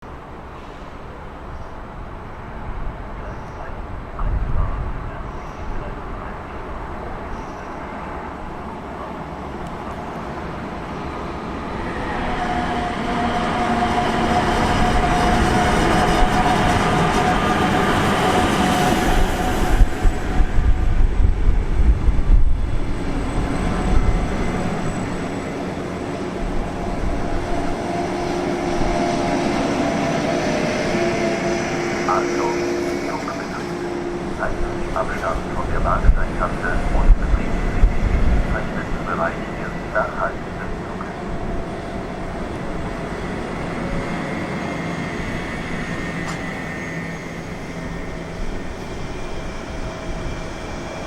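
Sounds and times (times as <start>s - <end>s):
train passing: 0.0s - 51.0s.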